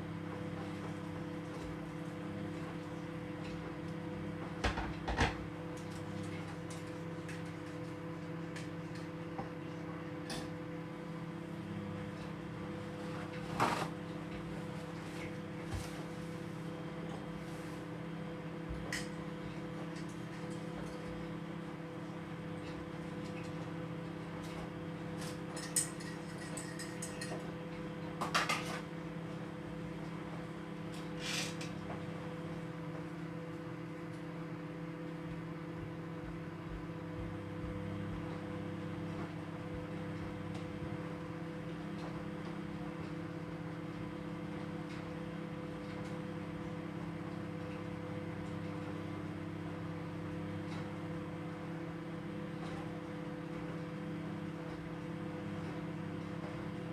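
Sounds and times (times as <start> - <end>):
microwave oven humming: 0.0 - 56.9.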